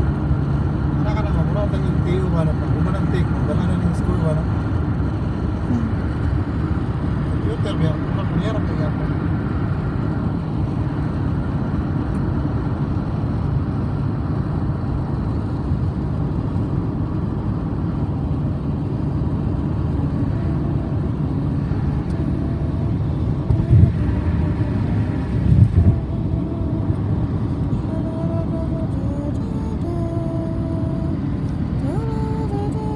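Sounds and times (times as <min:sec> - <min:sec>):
car driving on road: 0:00.0 - 0:32.9.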